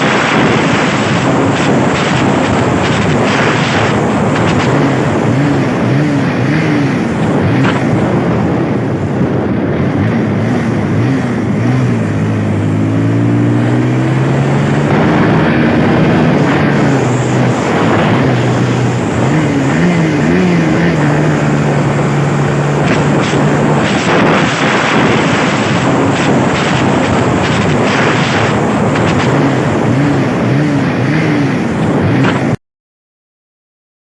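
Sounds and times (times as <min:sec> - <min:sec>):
loud rushing noise: 0:00.0 - 0:32.6
motorcycle engine at speed: 0:00.0 - 0:32.6.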